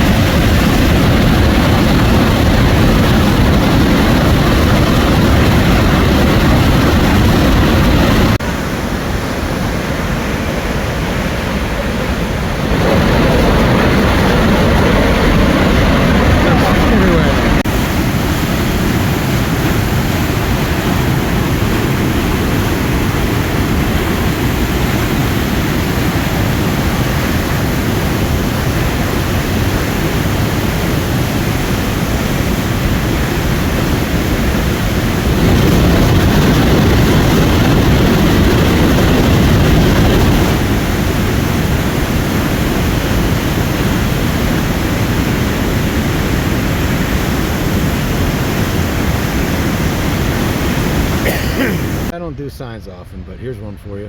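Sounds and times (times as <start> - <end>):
vehicle road and wind noise: 0.0 - 51.2.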